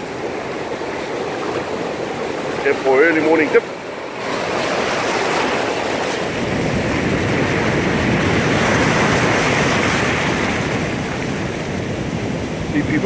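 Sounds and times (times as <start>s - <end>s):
ocean surf washing in: 0.0s - 13.0s
wind rumbling on microphone: 0.0s - 13.0s.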